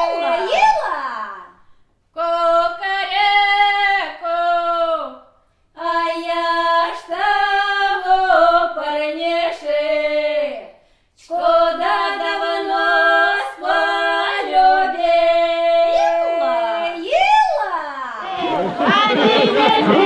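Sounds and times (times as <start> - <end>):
women singing unaccompanied: 0.0 - 1.6, 2.2 - 5.2, 5.8 - 20.0.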